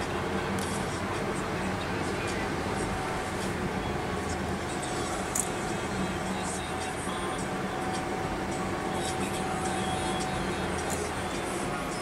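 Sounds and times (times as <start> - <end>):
engine and tyre rumble: 0.0 - 12.0
faint steady tone: 0.0 - 12.0.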